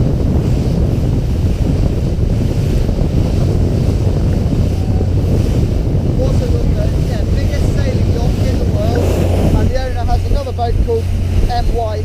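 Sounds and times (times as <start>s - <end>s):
sea washing around boat: 0.0s - 12.0s
wind buffeting microphone: 0.0s - 12.0s.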